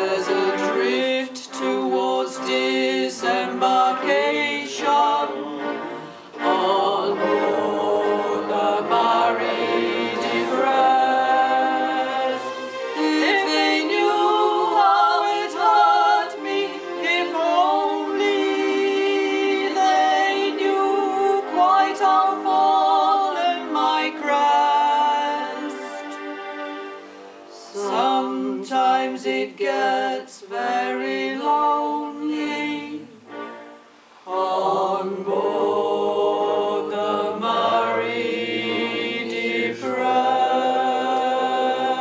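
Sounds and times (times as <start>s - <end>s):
voices singing in close harmony: 0.0s - 42.0s.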